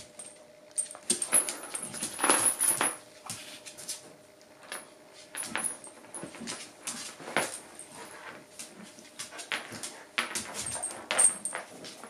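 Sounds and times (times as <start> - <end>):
dogs scuffling and clattering: 0.0 - 12.0.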